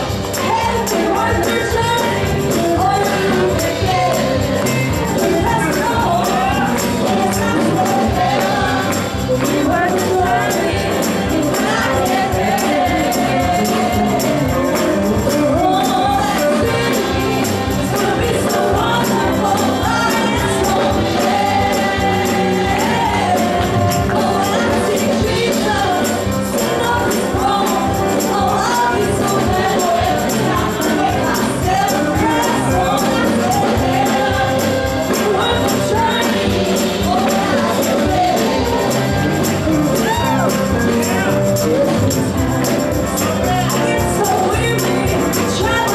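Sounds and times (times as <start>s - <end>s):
gospel singing voices: 0.0s - 45.9s
tambourine shaking: 0.0s - 45.9s.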